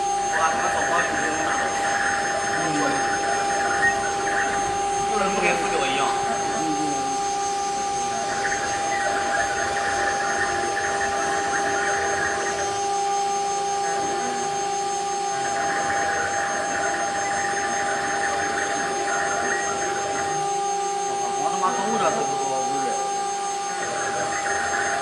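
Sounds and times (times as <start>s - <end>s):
router spindle high whine: 0.0s - 25.0s.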